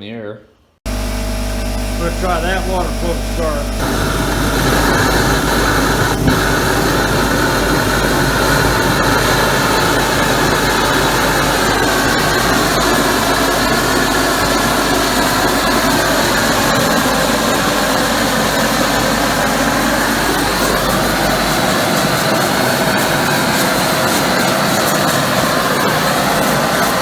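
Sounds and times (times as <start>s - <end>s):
propane torch roaring: 0.9s - 27.0s
steam jet hissing: 2.0s - 27.0s.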